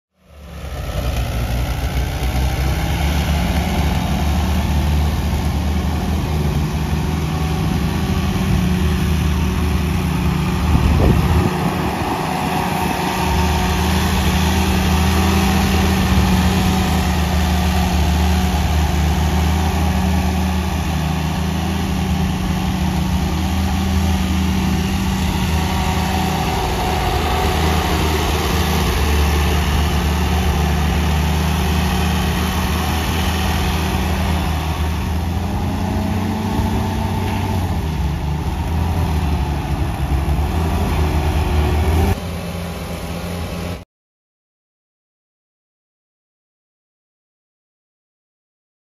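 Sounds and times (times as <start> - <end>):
tractor engine running: 0.2 - 43.8.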